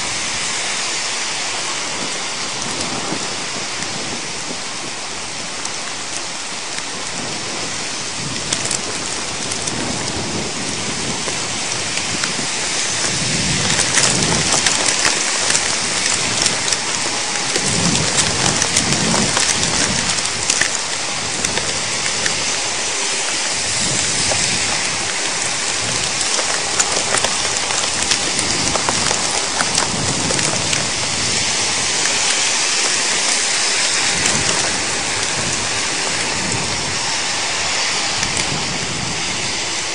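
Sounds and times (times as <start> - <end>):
heavy rain and hail: 0.0 - 39.9
thunder rolling: 6.9 - 39.9.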